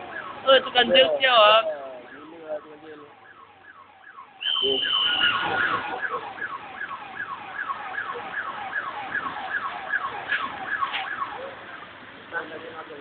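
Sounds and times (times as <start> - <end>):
emergency siren wailing: 0.0 - 12.1.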